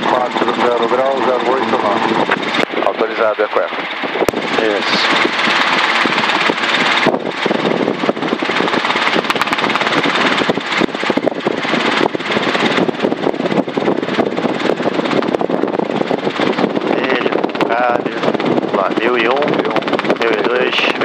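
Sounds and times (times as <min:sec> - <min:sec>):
helicopter engine and rotor noise: 0:00.0 - 0:21.0.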